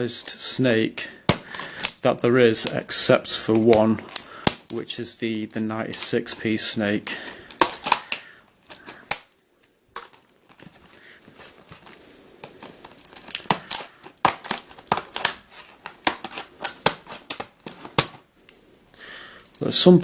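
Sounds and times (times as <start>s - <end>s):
plastic packaging crinkling: 1.3s - 19.8s.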